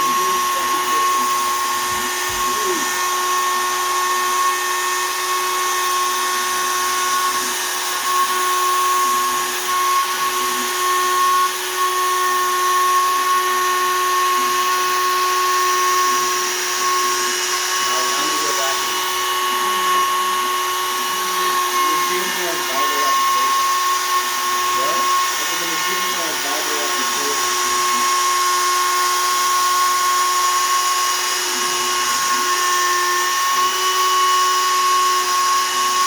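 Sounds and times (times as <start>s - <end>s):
router spindle high whine: 0.0s - 36.0s.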